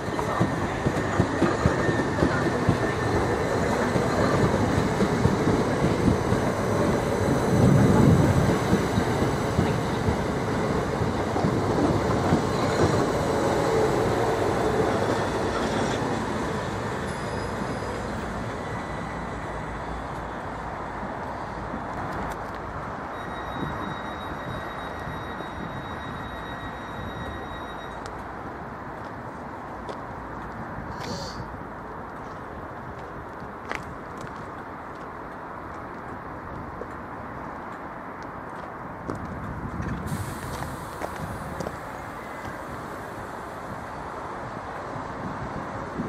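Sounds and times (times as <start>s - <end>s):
train passing: 0.0s - 30.9s, 31.5s - 46.0s.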